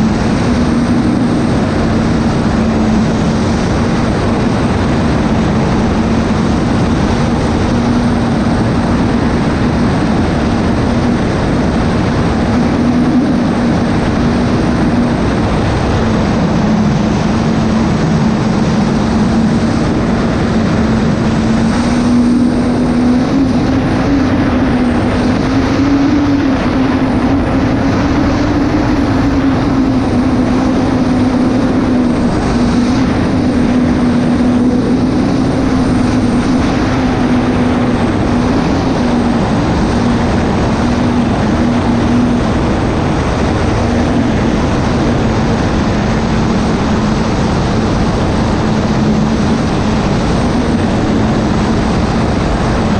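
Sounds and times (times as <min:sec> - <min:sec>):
turbine engine droning: 0:00.0 - 0:52.9
wind and water rushing: 0:00.0 - 0:52.9.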